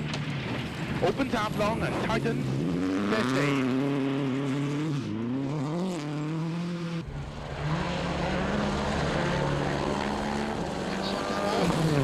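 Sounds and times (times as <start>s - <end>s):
low road noise rumble: 0.0s - 12.0s
rally car engine revving: 0.0s - 12.0s
rally car engine steady: 0.0s - 12.0s.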